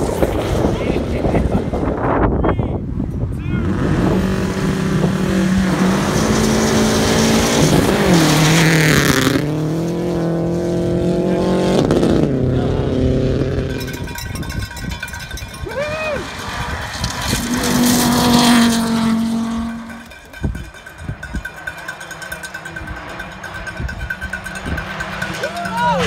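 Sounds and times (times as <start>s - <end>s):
rally car engine accelerating: 3.5s - 26.0s.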